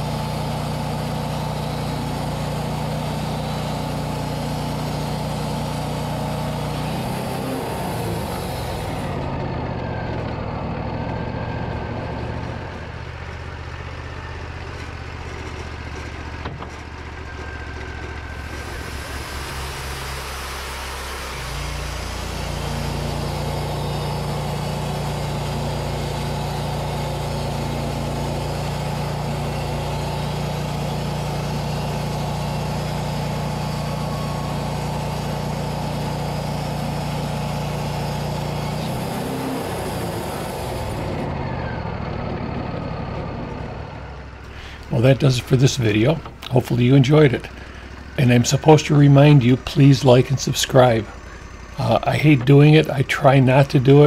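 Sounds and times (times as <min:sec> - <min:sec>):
bandsaw sawmill running: 0:00.0 - 0:54.0.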